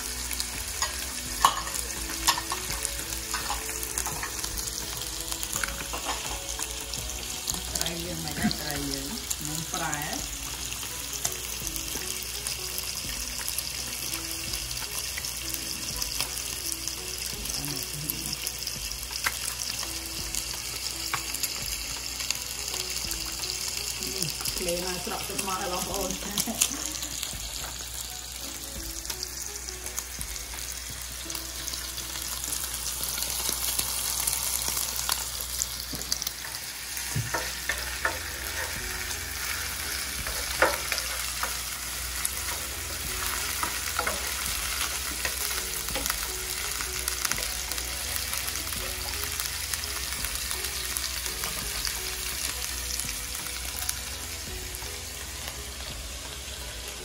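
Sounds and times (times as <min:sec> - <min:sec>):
hot oil sizzling: 0:00.0 - 0:57.0.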